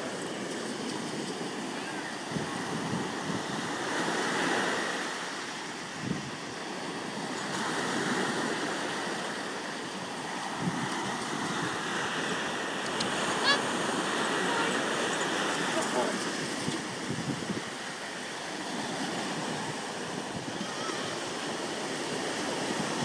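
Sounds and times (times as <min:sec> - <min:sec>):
sea surf breaking: 0:00.0 - 0:23.0.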